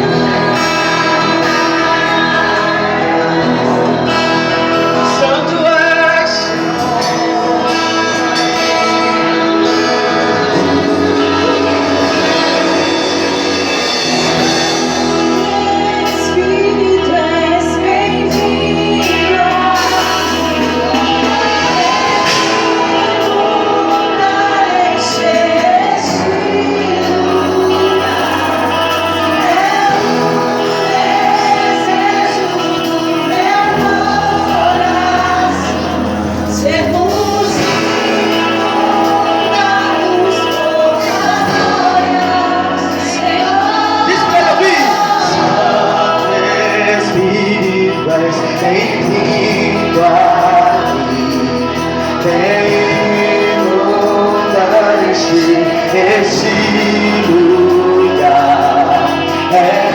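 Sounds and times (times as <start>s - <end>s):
guitar chords: 0.0s - 59.9s
sustained keyboard chords: 0.0s - 59.9s
woman singing: 0.0s - 59.9s.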